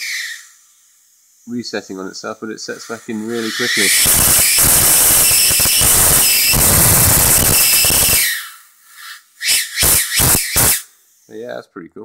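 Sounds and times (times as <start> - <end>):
high-voltage arc tearing: 0.0 - 0.8, 1.4 - 11.4.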